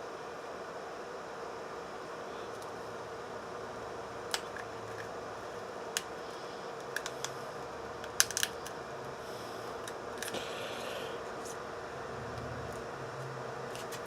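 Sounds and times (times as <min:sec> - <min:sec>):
faint hum: 0:00.0 - 0:14.0
steady hiss: 0:00.0 - 0:14.0.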